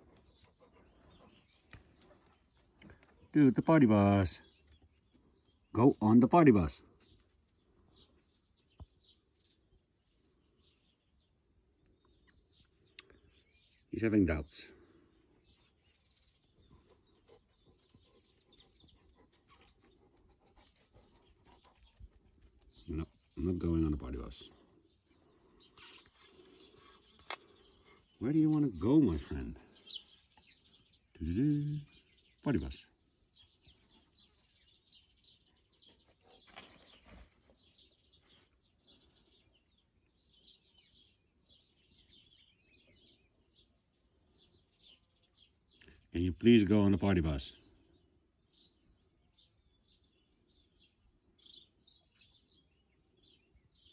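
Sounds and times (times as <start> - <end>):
faint bird chirps: 4.4 - 53.9.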